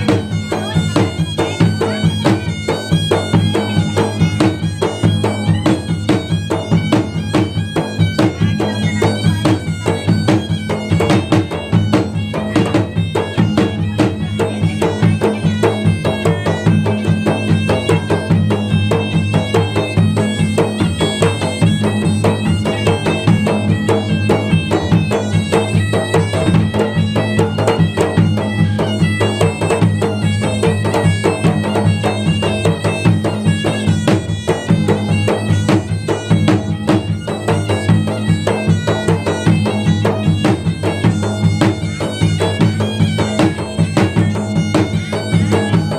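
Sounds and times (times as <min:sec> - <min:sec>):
hand drums beating fast: 0:00.0 - 0:45.9
shrill reed pipe melody: 0:00.0 - 0:45.9.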